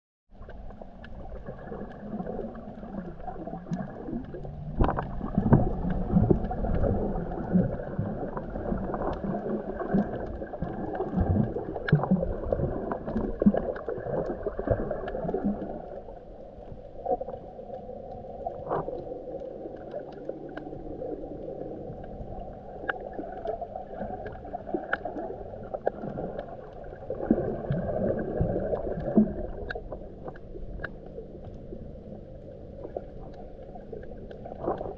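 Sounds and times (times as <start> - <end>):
underwater water gurgling: 0.3 - 34.9
sharp clicks and crackles: 0.4 - 34.9.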